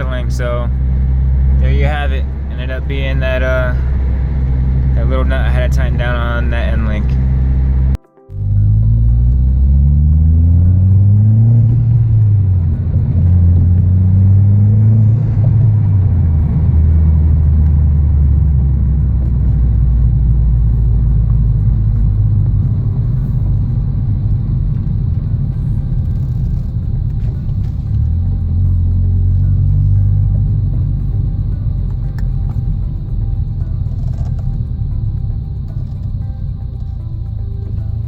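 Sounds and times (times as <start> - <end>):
car engine rumble: 0.0 - 38.0
road noise: 0.0 - 38.0.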